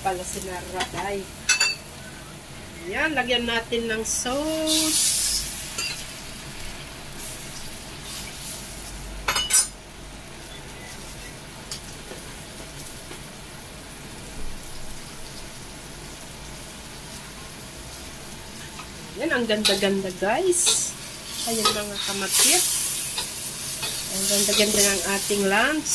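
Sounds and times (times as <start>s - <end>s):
food sizzling in a wok: 0.0s - 25.9s.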